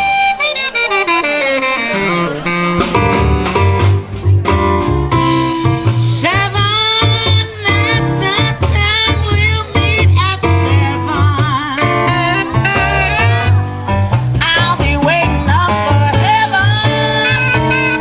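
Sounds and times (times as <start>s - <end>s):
live swing band playing: 0.0s - 18.0s
sliding lead melody with vibrato: 0.0s - 18.0s
pulsing bass line: 2.0s - 18.0s.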